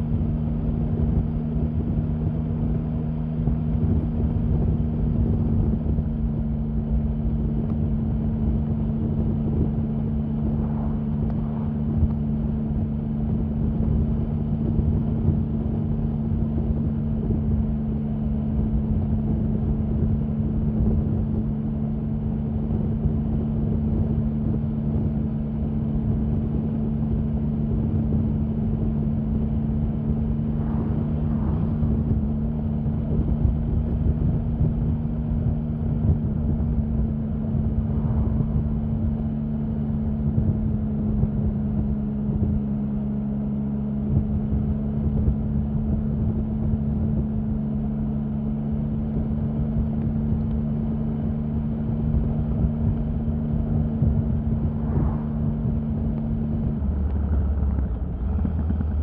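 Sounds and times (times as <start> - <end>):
constant rush of noise: 0.0 - 59.0
motorcycle engine running steadily: 0.0 - 59.0.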